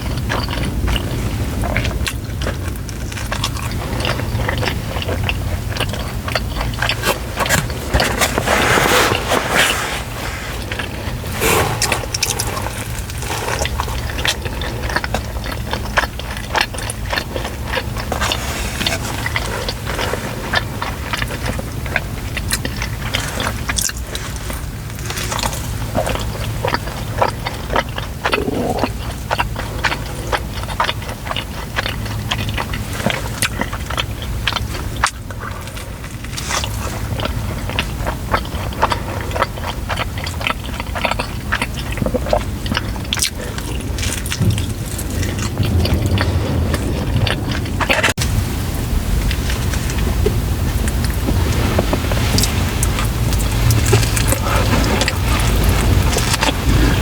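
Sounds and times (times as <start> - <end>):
biting and chewing food: 0.0 - 57.0
steady low hum: 0.0 - 57.0.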